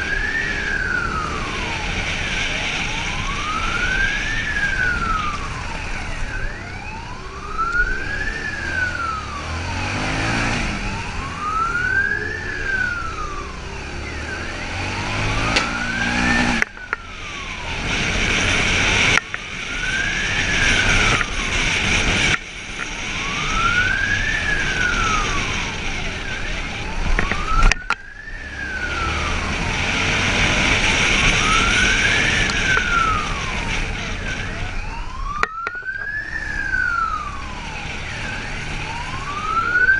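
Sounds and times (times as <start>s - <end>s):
motorcycle engine revving: 0.0s - 39.9s
motorcycle siren wailing: 0.0s - 39.9s.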